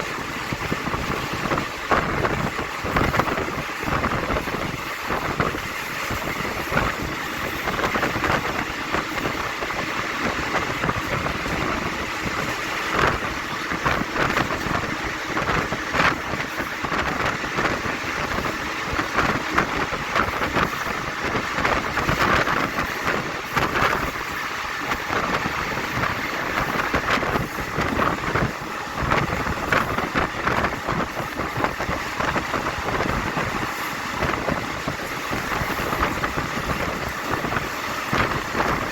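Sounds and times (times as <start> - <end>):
train rushing noise: 0.0 - 38.9.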